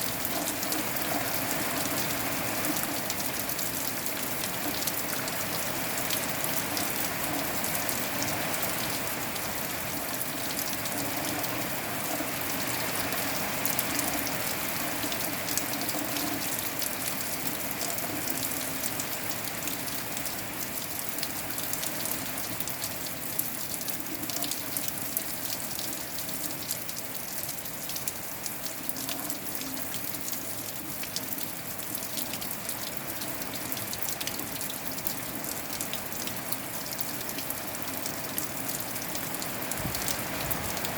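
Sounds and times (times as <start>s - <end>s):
raindrops striking close by: 0.0s - 40.9s
steady rain: 0.0s - 40.9s.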